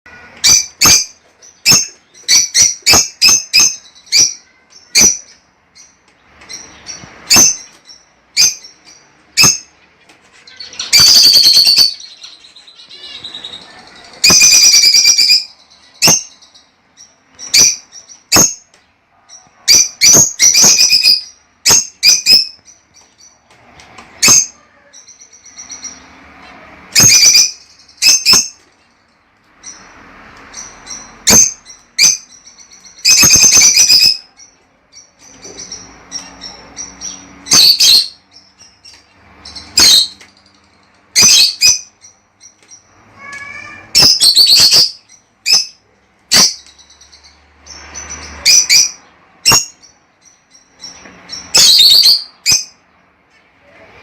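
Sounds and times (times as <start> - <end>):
lovebirds chirping: 0.1 - 54.0.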